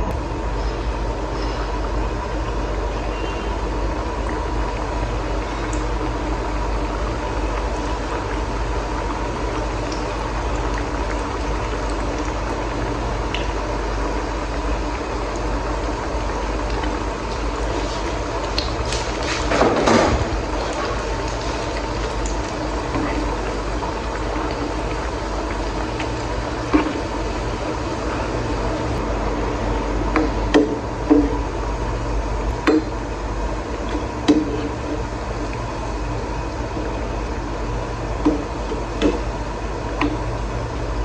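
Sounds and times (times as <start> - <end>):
dough sizzling in hot oil: 0.0 - 41.0.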